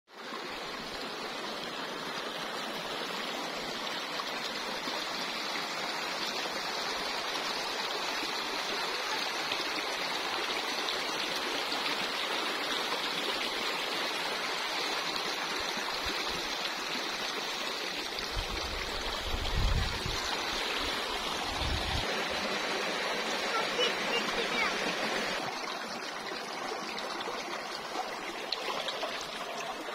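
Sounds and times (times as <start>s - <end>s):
running water rushing: 0.1s - 29.9s.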